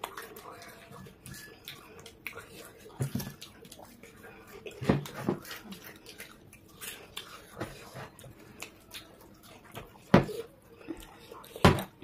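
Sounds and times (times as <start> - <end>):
chewing and mouth smacks: 0.0 - 12.0.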